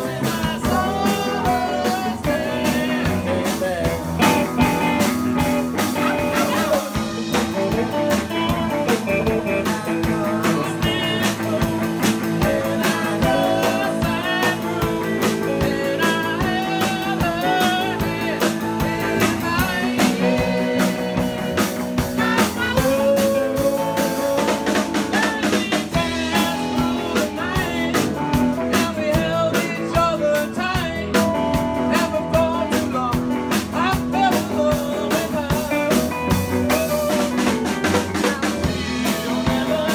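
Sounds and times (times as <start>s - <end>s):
drum kit: 0.0s - 39.9s
guitar: 0.0s - 39.9s
person singing: 0.0s - 39.9s.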